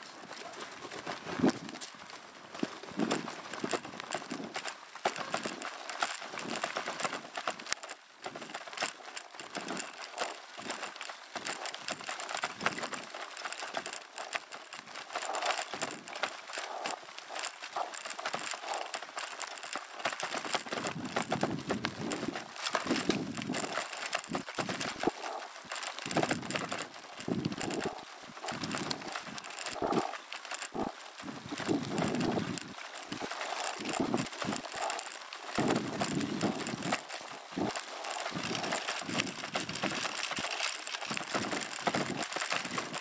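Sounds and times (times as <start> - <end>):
bicycle tyre crunching on dirt: 0.0 - 43.0
clatter of knocks and rattles: 3.0 - 43.0.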